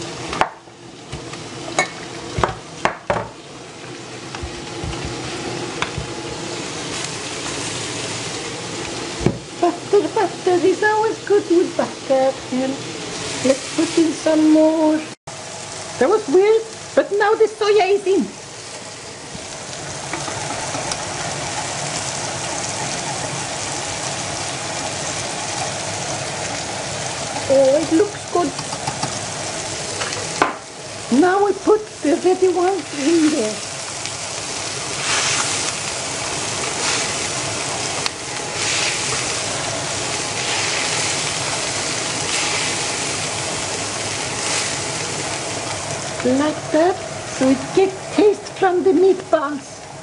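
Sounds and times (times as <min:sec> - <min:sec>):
meatballs sizzling in a pan: 0:00.0 - 0:50.0.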